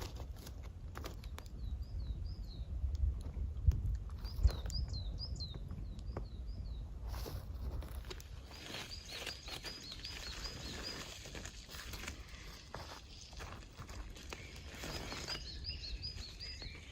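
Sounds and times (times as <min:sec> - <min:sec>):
small bird chirping: 0:01.1 - 0:02.9, 0:04.1 - 0:16.9.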